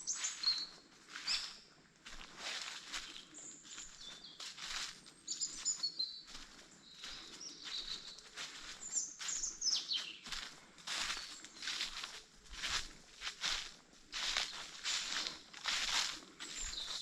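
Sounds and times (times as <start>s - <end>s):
small birds chirping and singing: 0.0s - 17.0s
footsteps crunching on forest floor: 0.1s - 17.0s.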